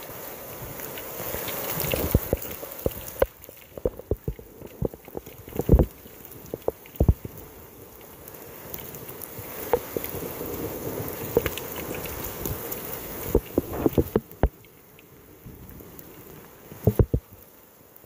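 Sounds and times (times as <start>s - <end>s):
rain and wind: 0.0s - 18.0s.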